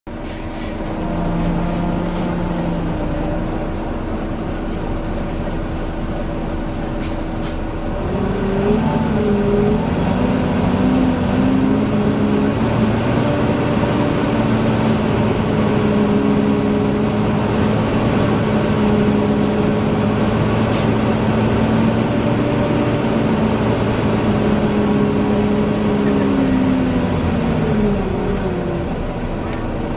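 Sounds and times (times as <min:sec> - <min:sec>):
bus engine whining drone: 0:00.1 - 0:29.9.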